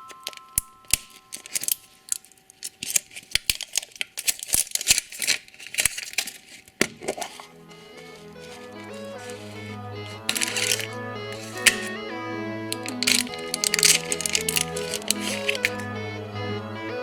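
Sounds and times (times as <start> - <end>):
foil wrapper tearing and crinkling: 0.0 - 11.9, 12.8 - 15.8.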